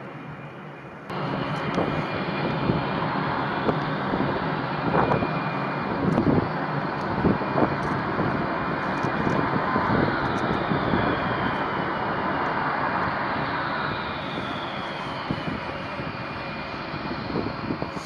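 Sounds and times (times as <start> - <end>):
jet engine rushing: 1.1 - 18.0
wind on microphone: 1.4 - 18.0.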